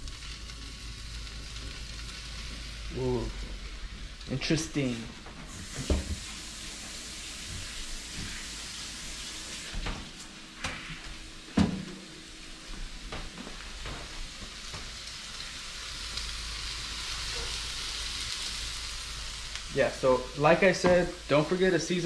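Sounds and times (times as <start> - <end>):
fish sizzling in oil: 0.0 - 10.6, 13.6 - 22.0.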